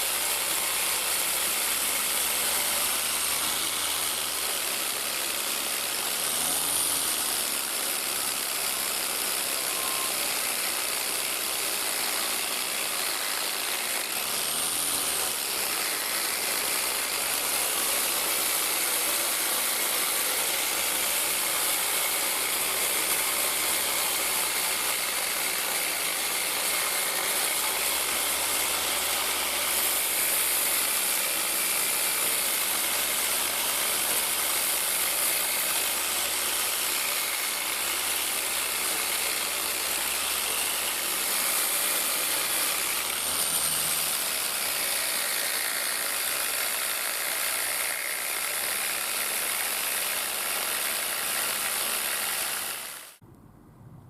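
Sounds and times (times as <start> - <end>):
power tool grinding metal: 0.0 - 53.2.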